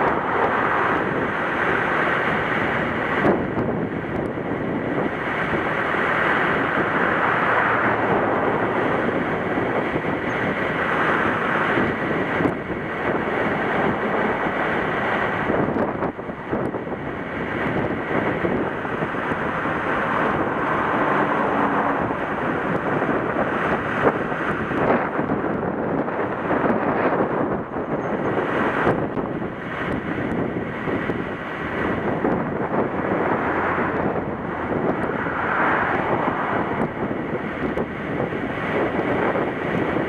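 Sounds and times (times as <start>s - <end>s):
ocean surf breaking: 0.0s - 40.0s
wind buffeting microphone: 0.0s - 40.0s.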